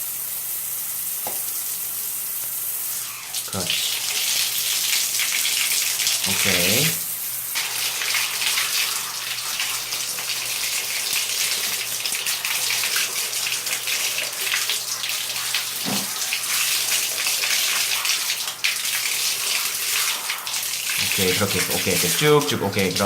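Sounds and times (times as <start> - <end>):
water spraying from shower head: 0.0 - 23.0.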